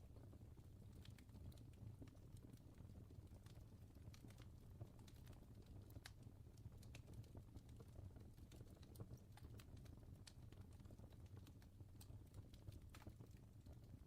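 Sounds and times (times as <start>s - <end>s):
faint crackling fire: 0.0s - 14.0s.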